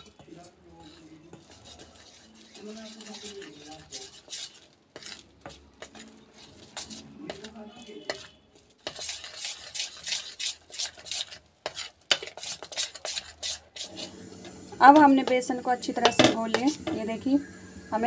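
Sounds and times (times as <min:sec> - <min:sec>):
batter mixed in a steel bowl: 0:00.0 - 0:18.0.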